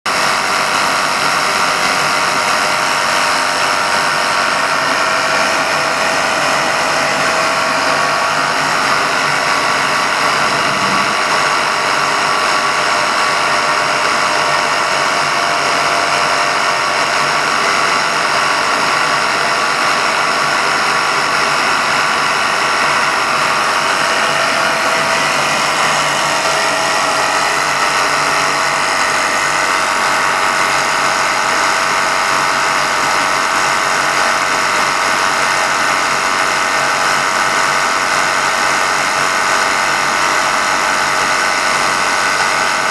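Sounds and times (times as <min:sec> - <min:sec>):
supercharged engine running: 0:00.1 - 0:42.9.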